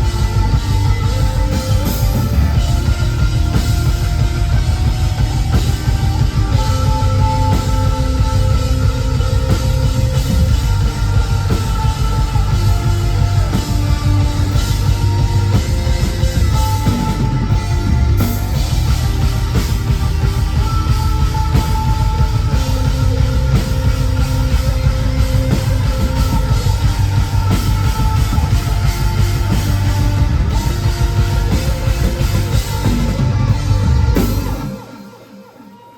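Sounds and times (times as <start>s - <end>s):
driving drum kit: 0.0s - 35.6s
rock band playing live: 0.0s - 35.9s.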